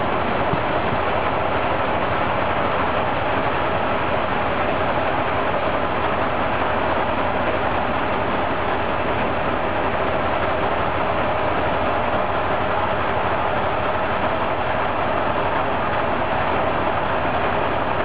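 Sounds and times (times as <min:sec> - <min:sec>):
railcar running on rails: 0:00.0 - 0:18.0.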